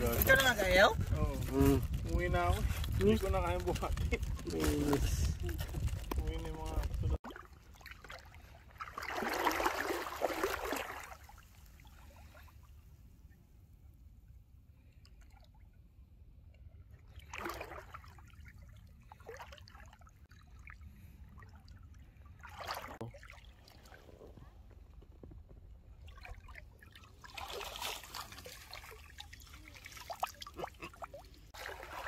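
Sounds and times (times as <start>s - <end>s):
water sloshing and splashing: 0.0s - 12.9s, 16.8s - 32.0s.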